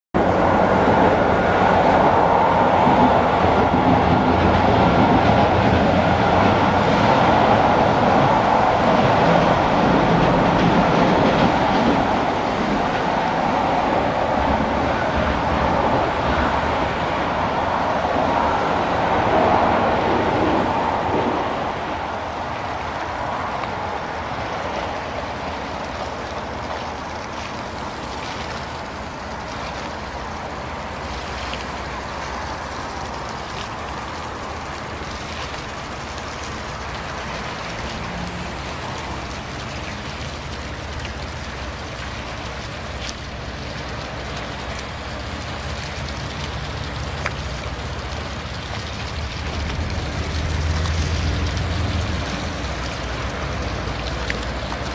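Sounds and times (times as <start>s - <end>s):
hiss of water: 0.2s - 54.9s.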